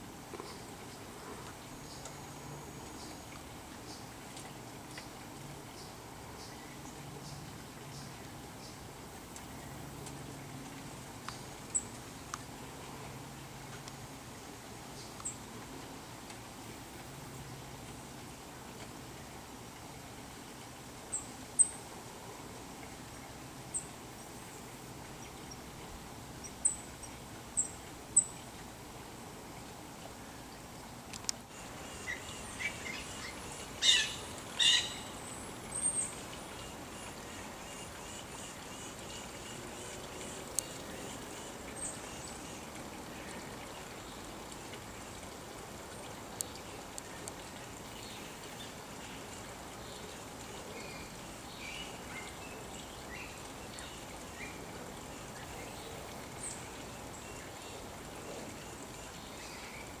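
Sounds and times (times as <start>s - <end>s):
outdoor background hiss: 0.0s - 60.0s.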